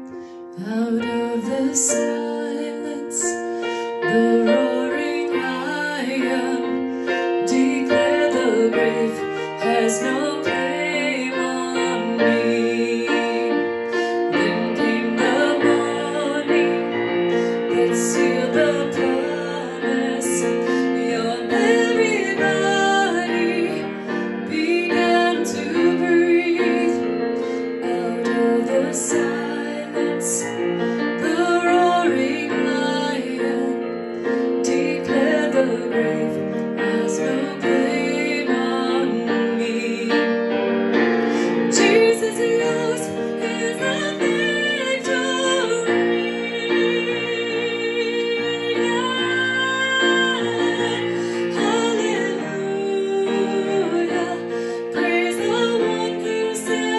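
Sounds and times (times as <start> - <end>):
piano accompaniment: 0.0 - 56.9
woman singing: 0.0 - 56.9.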